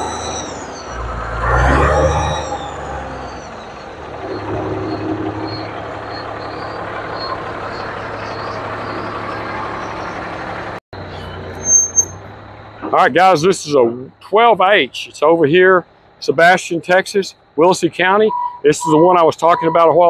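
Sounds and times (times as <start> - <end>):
diesel engine idling: 2.5 - 20.0.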